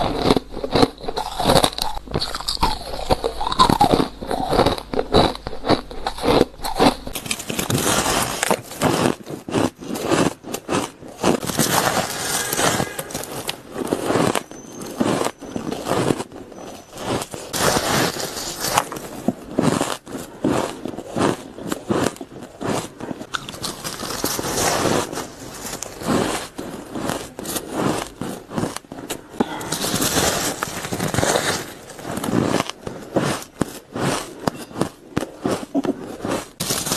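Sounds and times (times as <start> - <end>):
ice crunching when bitten: 0.0 - 36.9.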